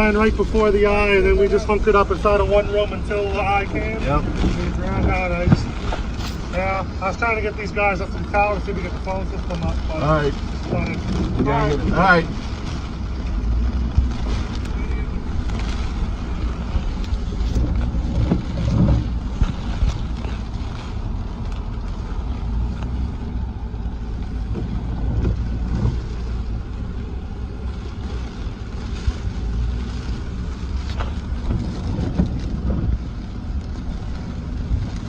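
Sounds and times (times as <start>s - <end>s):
vehicle driving rumble: 0.0s - 35.0s
wind buffeting microphone: 0.0s - 35.0s.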